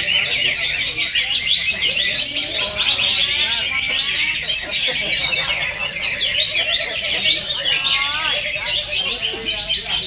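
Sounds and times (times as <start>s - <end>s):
birds singing and chirping: 0.0s - 10.0s.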